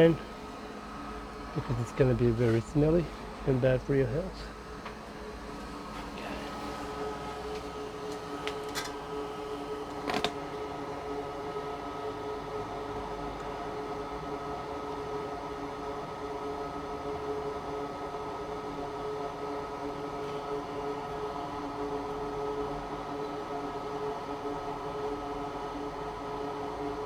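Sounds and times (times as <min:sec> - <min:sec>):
electric fan humming: 0:00.0 - 0:27.0.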